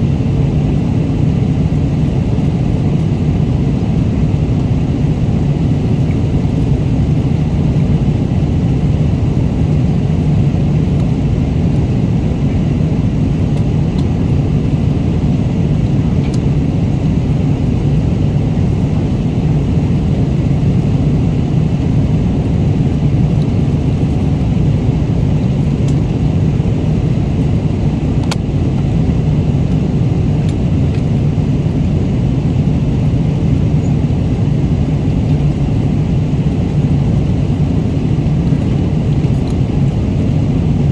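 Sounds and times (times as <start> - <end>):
jet engine cabin rush: 0.0 - 40.9.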